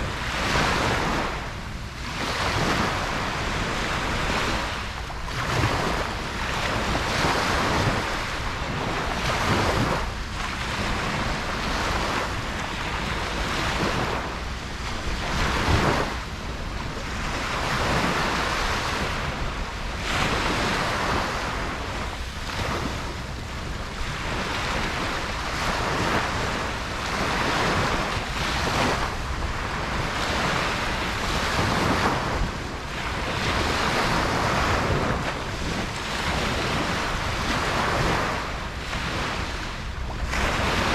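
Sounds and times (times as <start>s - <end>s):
ocean waves breaking on beach: 0.0s - 40.9s
wind buffeting microphone: 0.0s - 40.9s.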